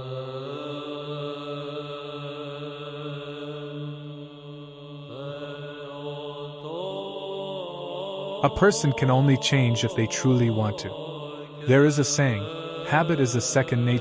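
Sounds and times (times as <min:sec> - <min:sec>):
voices chanting sustained notes: 0:00.0 - 0:14.0.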